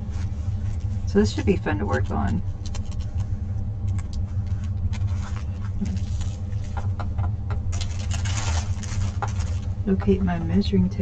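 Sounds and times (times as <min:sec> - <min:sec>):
plastic film crinkling: 0:00.0 - 0:10.2
low hum: 0:00.0 - 0:11.0.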